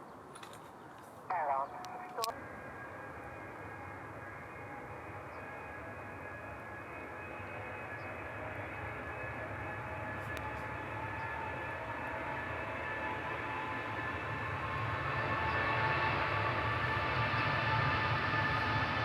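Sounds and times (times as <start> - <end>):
jet airliner engines rumbling: 0.0 - 19.0.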